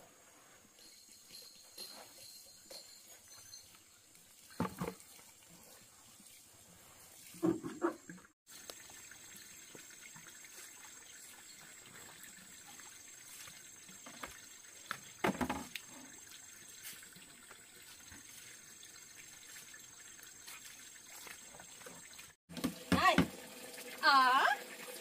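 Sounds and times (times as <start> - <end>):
water trickling: 3.0 - 7.4, 8.2 - 25.0.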